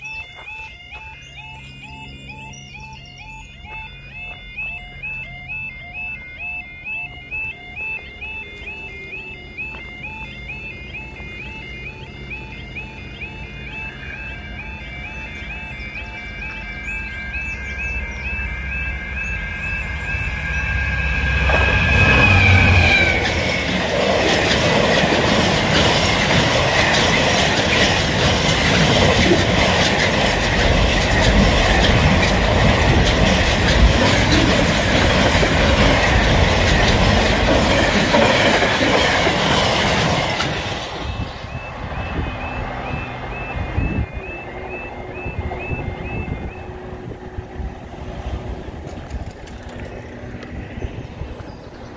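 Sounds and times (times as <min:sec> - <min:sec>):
diesel locomotive engine: 0:00.0 - 0:51.9
freight train rolling over crossing: 0:00.0 - 0:51.9
warbling two-tone crossing alarm: 0:00.0 - 0:51.9.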